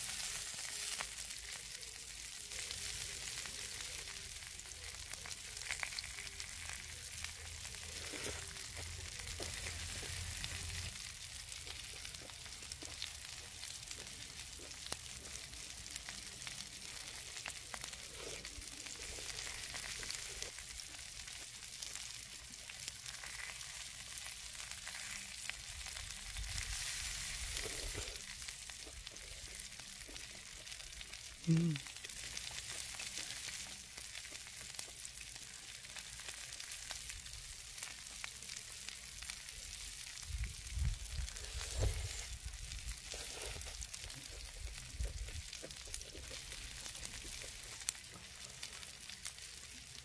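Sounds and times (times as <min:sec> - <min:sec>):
meat sizzling on griddle: 0:00.0 - 0:50.0.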